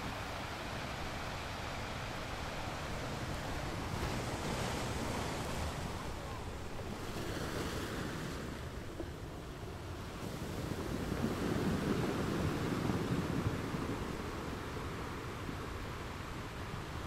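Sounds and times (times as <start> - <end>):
sea waves washing: 0.0 - 17.0
wind buffeting microphone: 0.1 - 17.0.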